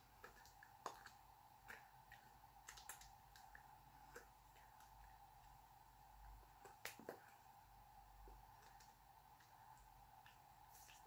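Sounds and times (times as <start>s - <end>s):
faint steady hum: 0.0s - 11.0s
faint clicks and taps: 0.1s - 5.6s, 6.5s - 7.4s, 8.2s - 11.0s.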